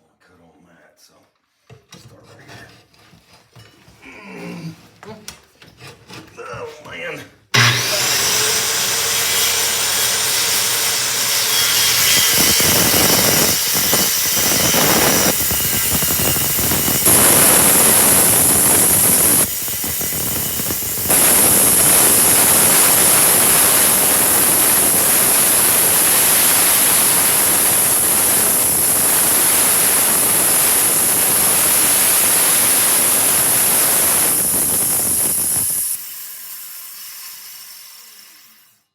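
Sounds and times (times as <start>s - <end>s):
power saw cutting wood: 7.5s - 38.9s.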